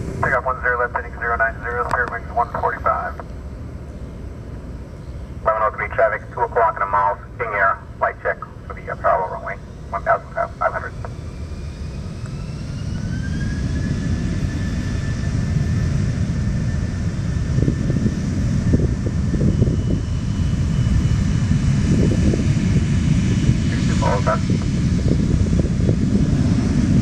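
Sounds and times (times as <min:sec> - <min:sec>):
deep jet engine rumble: 0:00.0 - 0:27.0
jet engine whine: 0:00.0 - 0:27.0.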